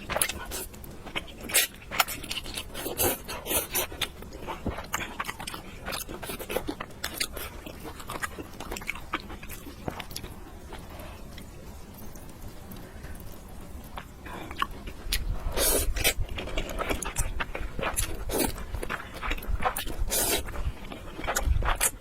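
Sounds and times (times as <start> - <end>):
mouth chewing food: 0.0 - 22.0.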